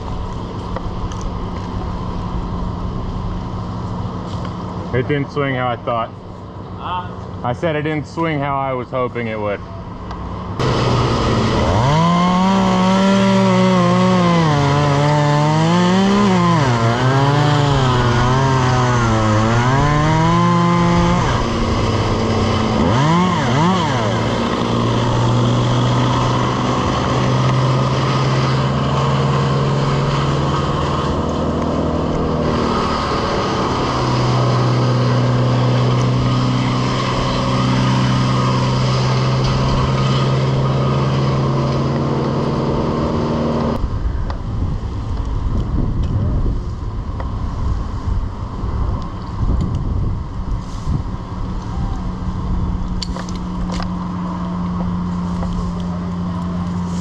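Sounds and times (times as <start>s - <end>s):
rough uneven engine sound: 0.0s - 44.4s, 50.4s - 57.0s
engine running at high speed: 0.0s - 57.0s.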